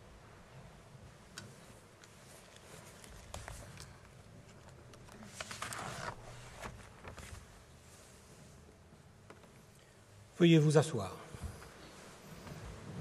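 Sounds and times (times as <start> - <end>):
people shuffling and rustling: 0.5 - 9.7, 11.2 - 13.0.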